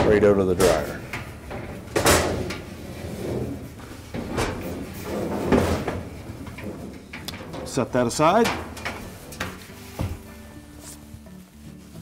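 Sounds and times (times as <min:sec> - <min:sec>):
metal drum knocking and scraping: 0:00.0 - 0:10.4.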